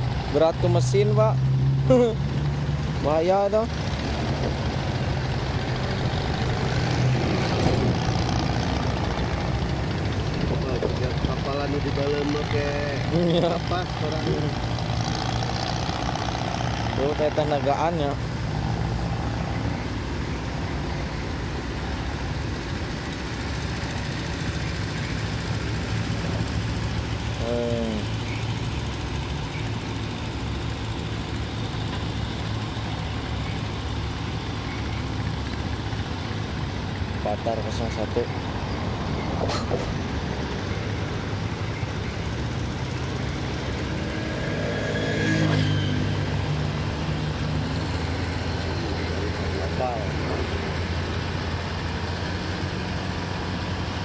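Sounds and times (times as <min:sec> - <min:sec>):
motor rumble: 0:00.0 - 0:44.7
engines droning: 0:00.0 - 0:54.0.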